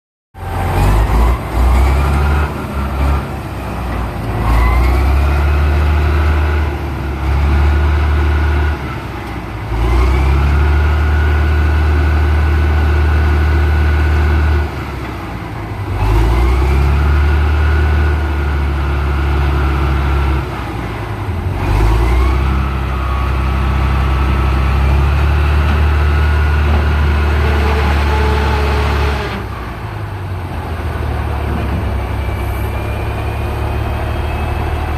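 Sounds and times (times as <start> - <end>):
diesel engines revving: 0.4 - 34.9.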